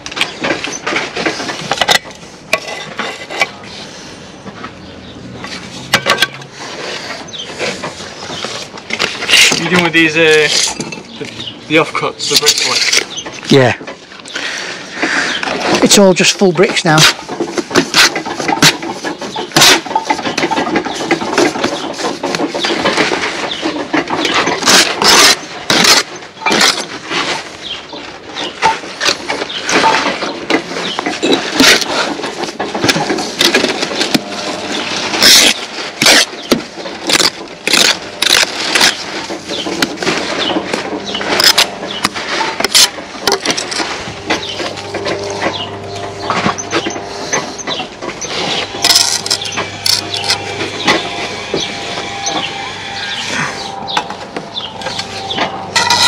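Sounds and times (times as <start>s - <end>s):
trowel scraping and knocking mortar: 0.0s - 3.6s, 5.4s - 13.5s, 15.0s - 27.6s, 28.4s - 52.5s, 54.6s - 56.0s
noisy background: 0.0s - 56.0s.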